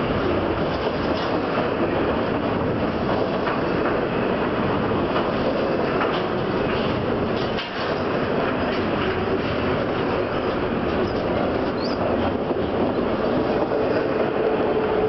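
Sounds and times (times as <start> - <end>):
steel wheels on rail: 0.0 - 15.0
train cars rattling: 0.0 - 15.0.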